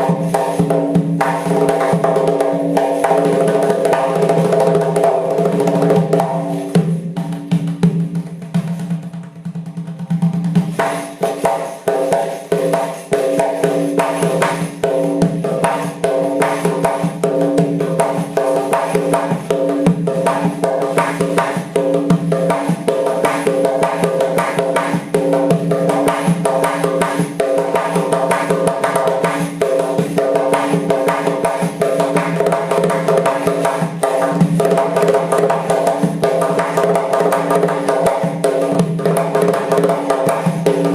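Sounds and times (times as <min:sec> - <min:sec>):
frame drum with jingles: 0:00.0 - 0:40.9.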